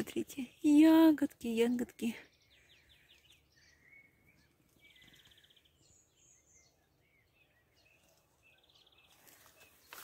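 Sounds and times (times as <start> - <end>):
faint songbirds chirping: 0.0 - 10.0.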